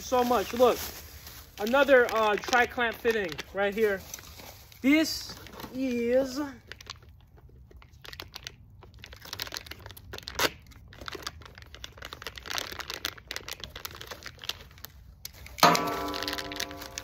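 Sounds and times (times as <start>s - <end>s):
plastic packaging crinkling: 0.0s - 17.0s
plastic ripping: 0.0s - 17.0s.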